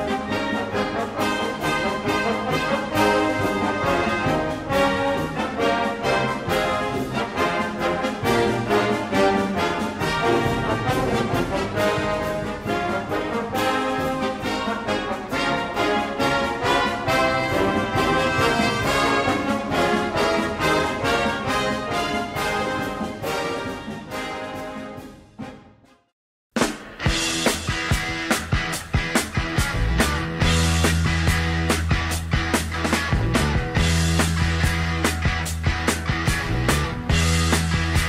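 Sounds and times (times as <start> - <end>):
instrumental music with brass: 0.0 - 38.0.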